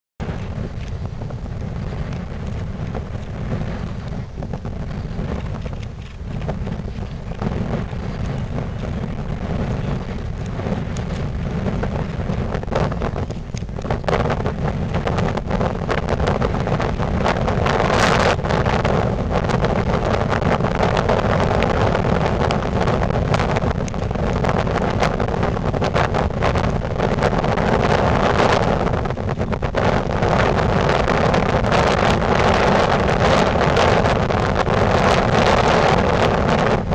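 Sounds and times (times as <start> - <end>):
wind buffeting microphone: 0.2 - 36.9.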